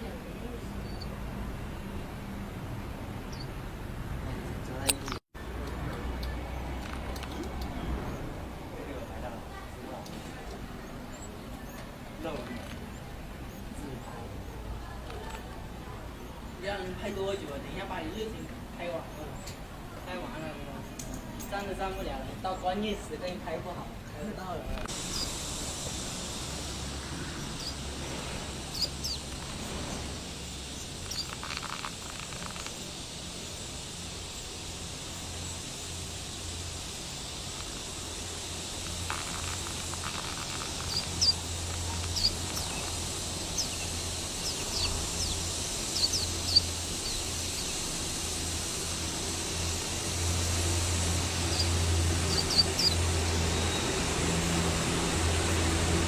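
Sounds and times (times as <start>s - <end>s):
small birds chirping: 0.0s - 2.0s, 2.8s - 3.7s, 4.3s - 5.3s, 5.9s - 56.0s
low outdoor rumble: 0.0s - 56.0s.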